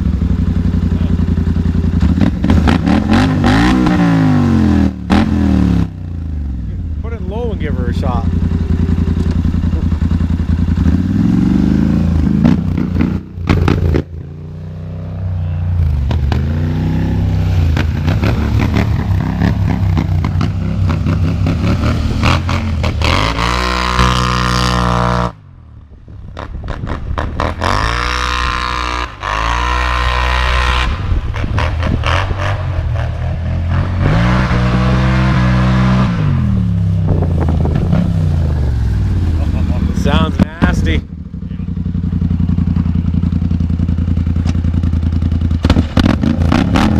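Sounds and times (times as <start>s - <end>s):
atv engine revving: 0.0s - 25.5s, 26.1s - 46.9s.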